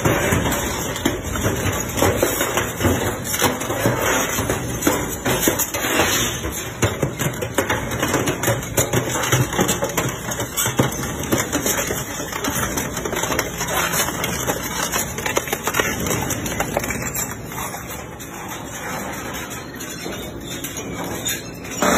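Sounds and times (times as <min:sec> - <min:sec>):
shredder crushing metal barrel: 0:00.0 - 0:21.9.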